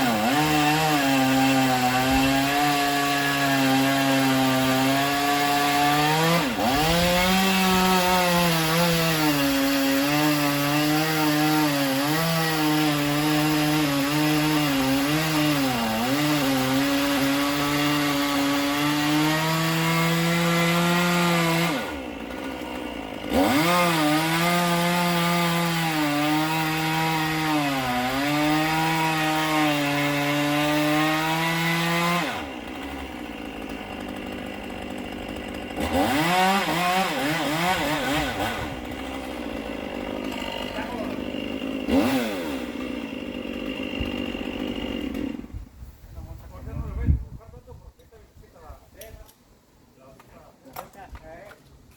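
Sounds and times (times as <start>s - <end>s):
chainsaw cutting wood: 0.0s - 45.7s.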